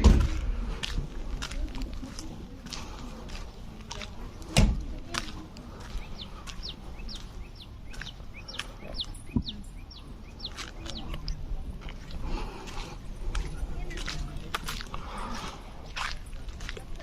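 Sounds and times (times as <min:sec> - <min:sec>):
small birds chirping: 0:01.4 - 0:17.0.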